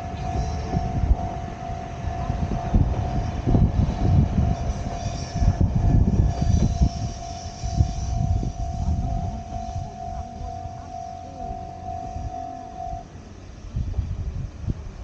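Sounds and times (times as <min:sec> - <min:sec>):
diesel railcar rumbling: 0:00.0 - 0:15.0.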